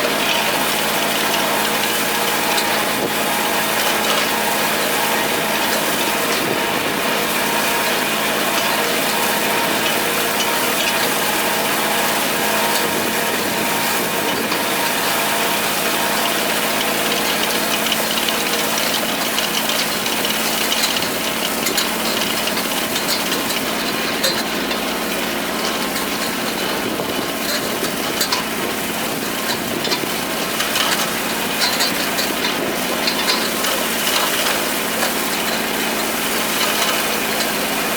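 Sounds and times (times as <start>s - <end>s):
hay tedder clicking and rattling: 0.0s - 37.9s
tractor diesel engine running: 0.0s - 37.9s.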